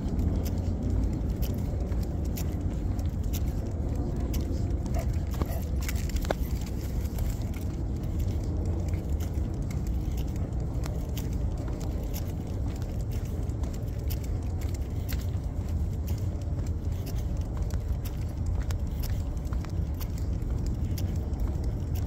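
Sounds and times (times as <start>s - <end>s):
leash clip jingling: 0.2s - 22.0s.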